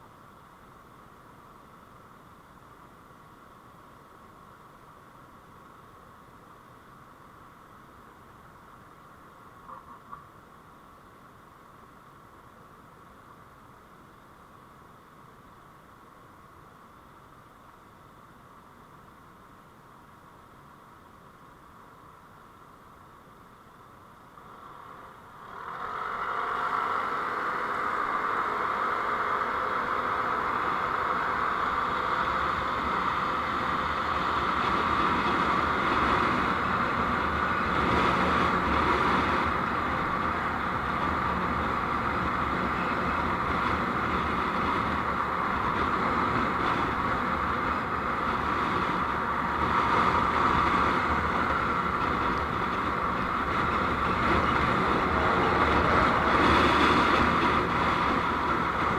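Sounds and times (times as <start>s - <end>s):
faint hiss: 0.0s - 52.4s
vehicle road noise: 0.0s - 58.9s.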